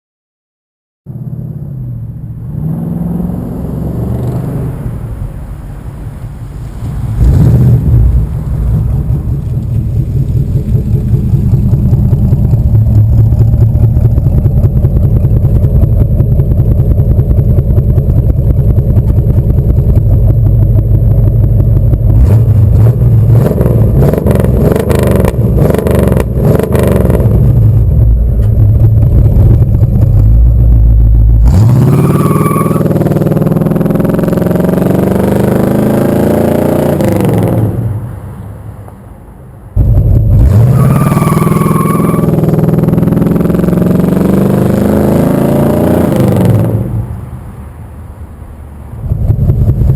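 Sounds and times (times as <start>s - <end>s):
car engine rumbling: 1.1s - 49.9s.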